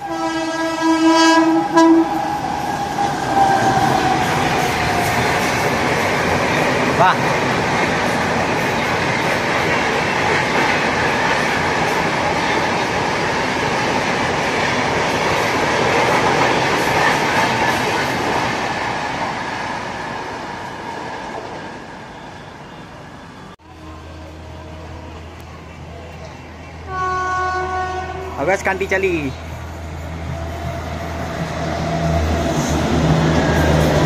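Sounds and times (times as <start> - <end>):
train wheels rushing on rail: 0.0 - 34.0.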